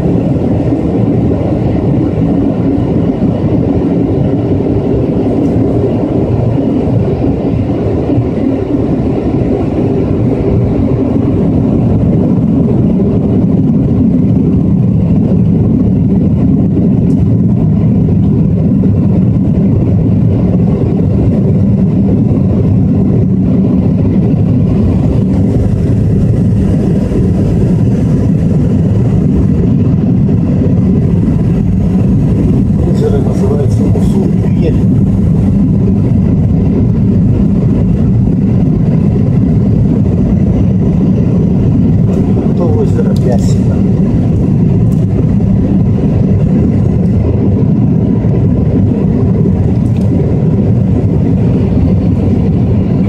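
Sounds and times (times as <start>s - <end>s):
jet engine and airflow noise: 0.0s - 53.0s.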